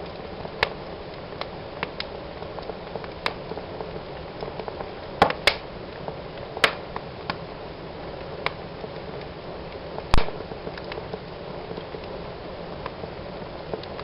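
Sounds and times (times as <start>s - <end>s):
fire burning in a fireplace: 0.0s - 14.0s
fire crackling and popping: 0.0s - 14.0s.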